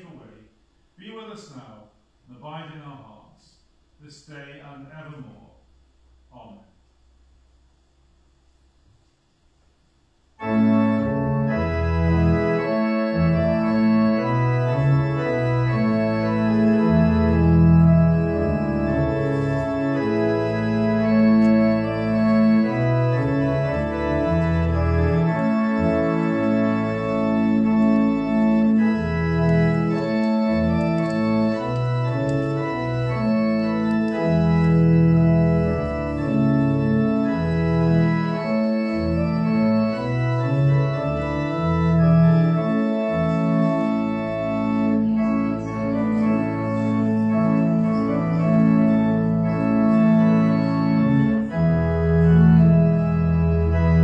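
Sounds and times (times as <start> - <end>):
pipe organ playing chords: 0.0 - 3.3, 9.8 - 54.0.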